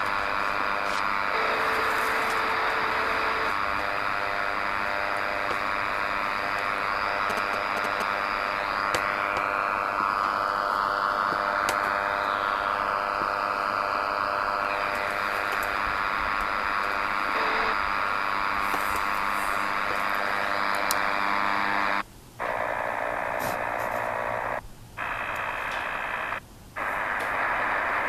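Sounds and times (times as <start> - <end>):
radio static hiss with buzz: 0.0 - 28.0
sharp clicks: 0.0 - 28.0.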